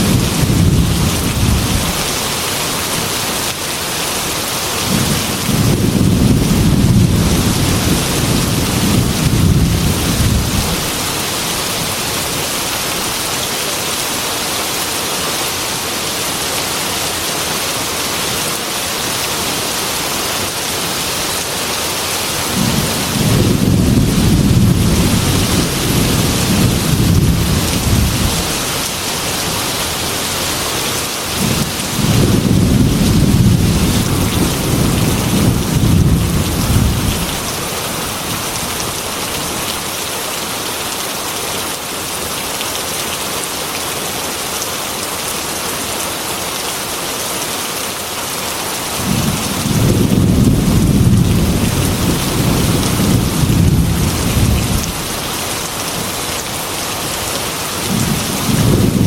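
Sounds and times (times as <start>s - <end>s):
heavy rain on a glass window: 0.0s - 59.0s.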